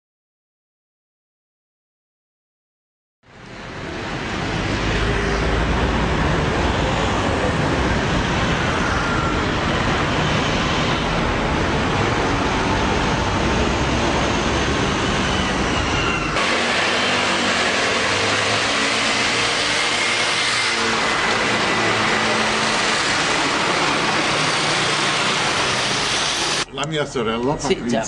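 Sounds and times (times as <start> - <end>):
cars and scooters passing: 3.3 - 26.7.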